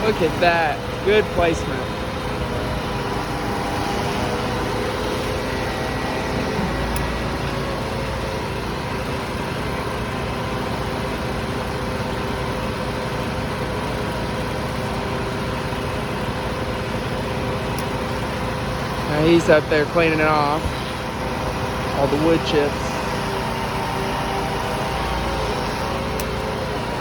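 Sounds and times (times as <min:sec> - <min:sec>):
heavy machinery engine running: 0:00.0 - 0:27.0.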